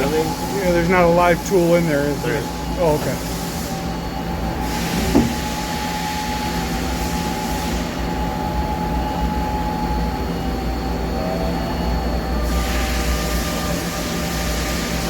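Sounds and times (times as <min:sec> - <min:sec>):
lathe mechanical hum: 0:00.0 - 0:15.0.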